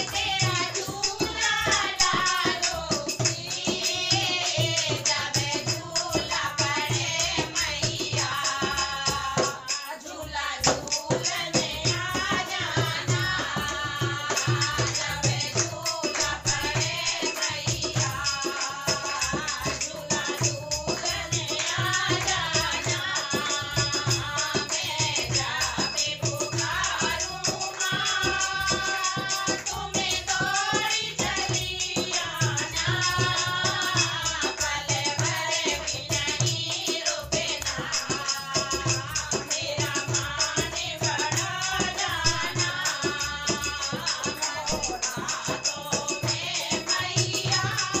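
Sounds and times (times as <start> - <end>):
hand drum beat: 0.0 - 48.0
person singing devotional melody: 0.0 - 48.0
rattling shaker percussion: 0.0 - 48.0.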